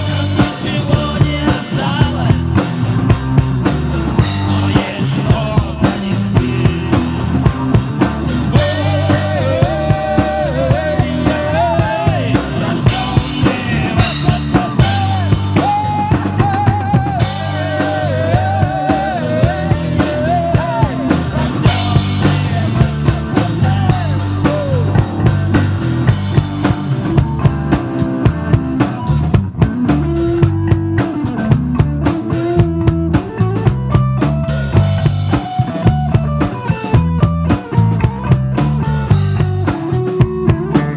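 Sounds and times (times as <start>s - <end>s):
bass and guitar: 0.0s - 40.9s
drum kit beat: 0.0s - 40.9s.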